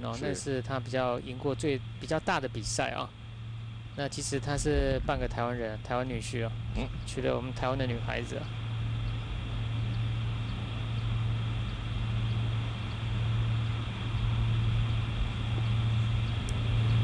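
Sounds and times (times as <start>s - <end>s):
faint outdoor background noise: 0.0s - 17.0s
steady low hum: 0.0s - 17.0s.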